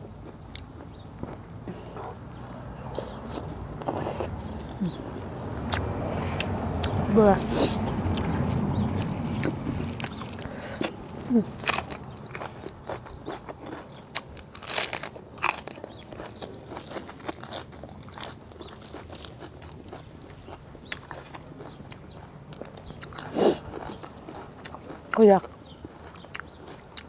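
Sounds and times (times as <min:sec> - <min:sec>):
person crunching and chewing: 0:00.2 - 0:27.0.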